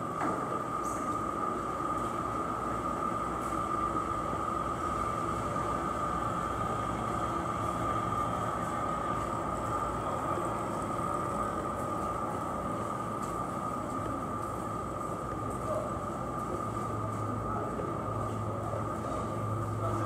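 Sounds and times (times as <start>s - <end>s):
market ambient noise: 0.0s - 20.0s.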